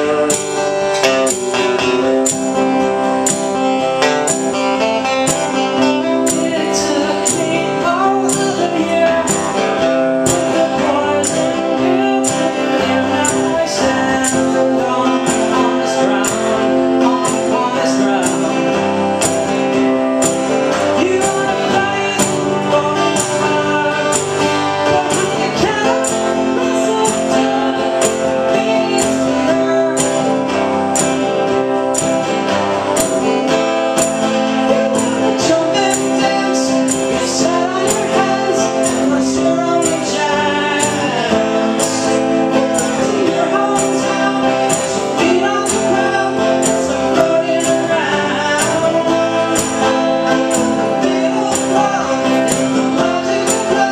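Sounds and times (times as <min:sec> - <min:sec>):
acoustic guitars strumming: 0:00.0 - 0:53.9
man singing: 0:00.0 - 0:53.9.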